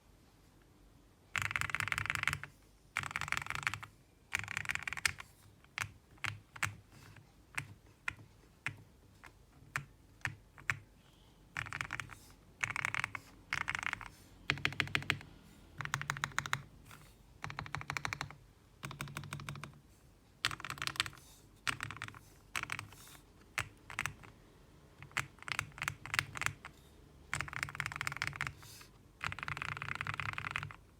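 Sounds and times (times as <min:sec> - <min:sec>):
typing on mechanical keyboard: 0:01.3 - 0:06.8, 0:07.5 - 0:10.9, 0:11.5 - 0:19.8, 0:20.4 - 0:24.4, 0:25.0 - 0:30.9.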